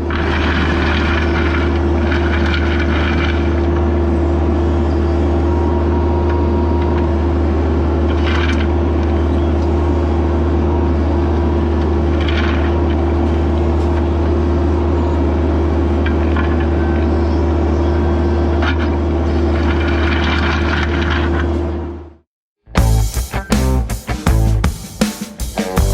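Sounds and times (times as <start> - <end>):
excavator diesel engine droning: 0.0 - 22.2.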